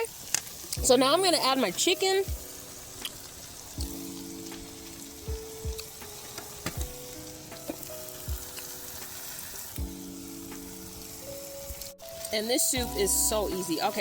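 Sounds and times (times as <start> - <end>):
vegetables sizzling in butter: 0.0 - 14.0.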